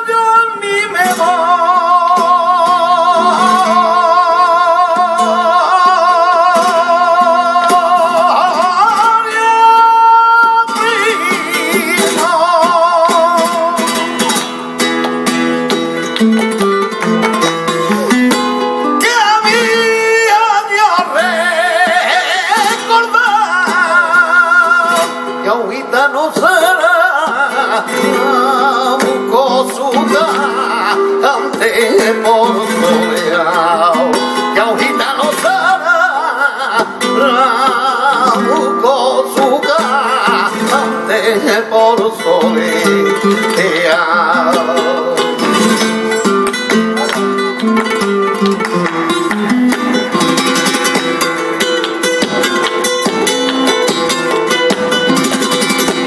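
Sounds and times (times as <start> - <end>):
man singing: 0.0 - 14.6, 16.8 - 56.0
flamenco guitar: 0.0 - 56.0
rhythmic hand clapping: 1.7 - 25.4, 26.3 - 56.0.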